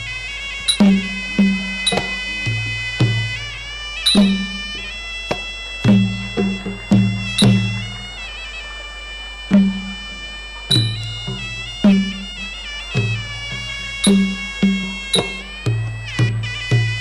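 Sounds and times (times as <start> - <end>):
deep drum strokes: 0.0 - 8.2, 9.5 - 17.0
reed oboe melody: 0.0 - 17.0.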